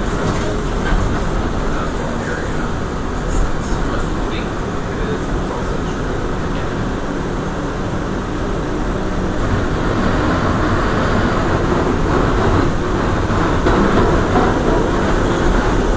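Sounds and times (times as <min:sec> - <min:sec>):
subway train rumbling: 0:00.0 - 0:15.9.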